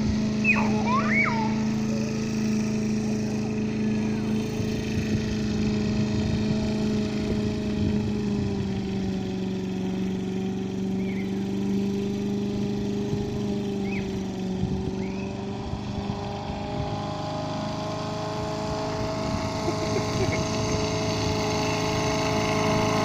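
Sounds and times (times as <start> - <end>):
lawnmower engine mowing grass: 0.0 - 23.0.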